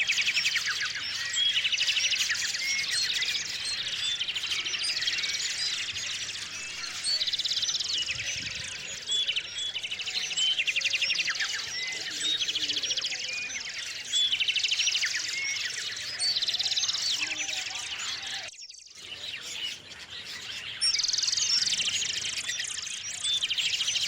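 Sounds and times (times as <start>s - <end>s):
high bird chirps: 0.0s - 24.0s
songbird trills: 0.0s - 24.0s.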